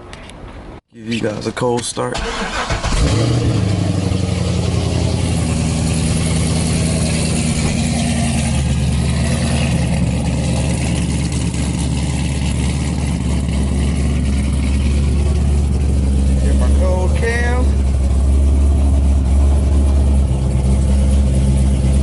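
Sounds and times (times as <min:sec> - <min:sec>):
car engine fast idle: 0:02.2 - 0:22.0.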